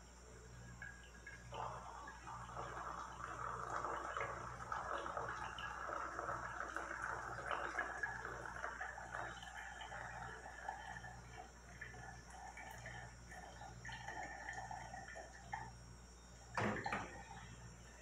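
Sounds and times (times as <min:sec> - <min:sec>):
coffee dripping: 0:00.0 - 0:18.0.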